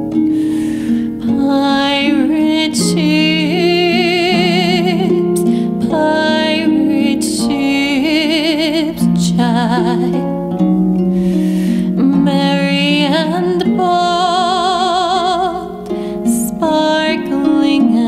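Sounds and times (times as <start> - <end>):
plucked strings: 0.0 - 18.0
woman singing lullaby: 1.2 - 10.3, 12.0 - 18.0.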